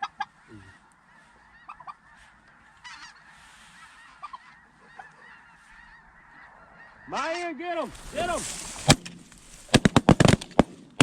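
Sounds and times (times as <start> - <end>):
geese honking: 0.0 - 9.9.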